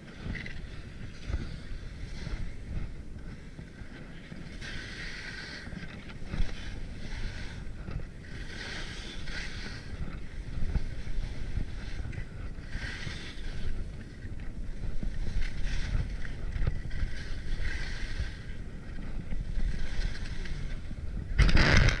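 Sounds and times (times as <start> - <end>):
skis scraping over snow: 0.0 - 22.0
wind rumble on microphone: 0.0 - 22.0.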